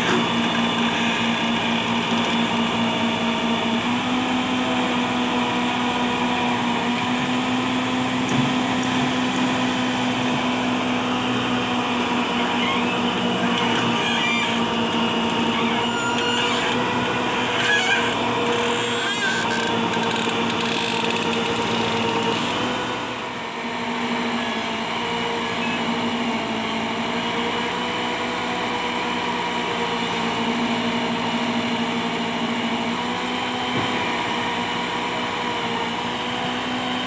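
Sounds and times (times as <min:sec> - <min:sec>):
tractor diesel engine droning: 0:00.0 - 0:37.0.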